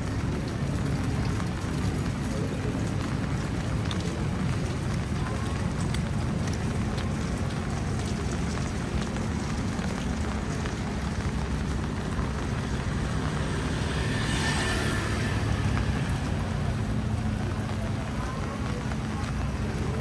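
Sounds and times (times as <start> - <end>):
rain hissing: 0.0 - 20.0
traffic rumble: 0.0 - 20.0.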